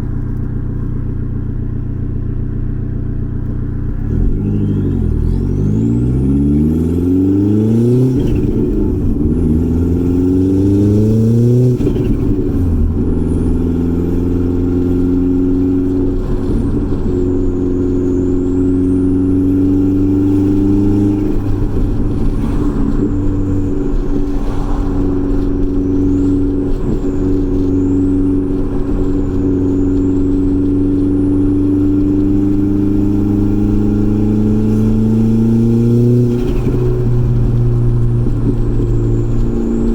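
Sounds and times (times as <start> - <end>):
turbocharged car engine revving: 3.9 - 39.9.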